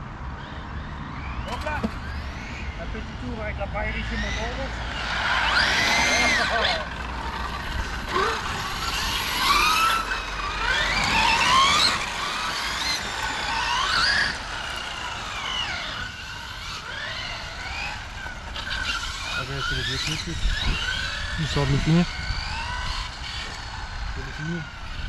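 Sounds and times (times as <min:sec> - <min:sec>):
toy car motor whining: 0:00.4 - 0:25.0.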